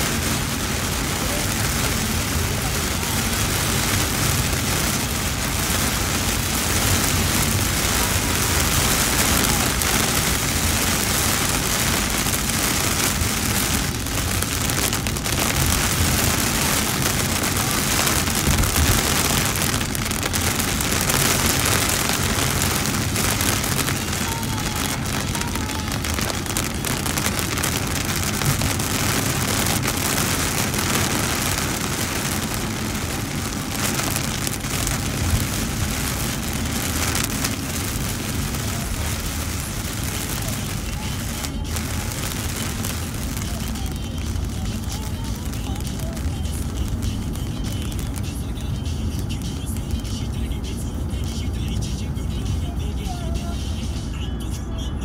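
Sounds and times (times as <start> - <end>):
heavy rain drumming on car roof: 0.0 - 54.0
low rumble of car driving: 0.0 - 55.0.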